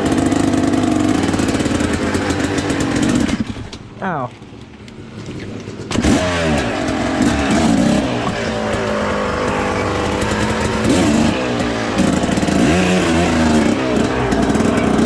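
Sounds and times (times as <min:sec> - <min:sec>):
dirt bike engine revving: 0:00.0 - 0:03.8, 0:05.4 - 0:15.0.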